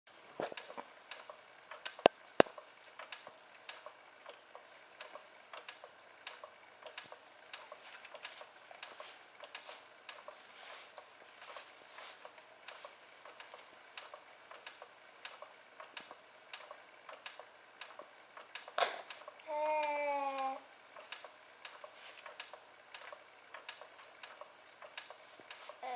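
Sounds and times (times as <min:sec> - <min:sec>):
baby swing mechanism clicking: 0:00.4 - 0:25.9.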